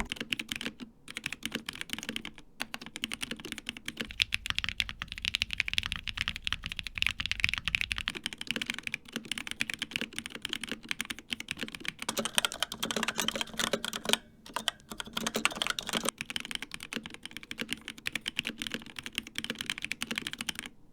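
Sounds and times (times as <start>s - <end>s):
fast typing on mechanical keyboard: 0.0s - 20.8s.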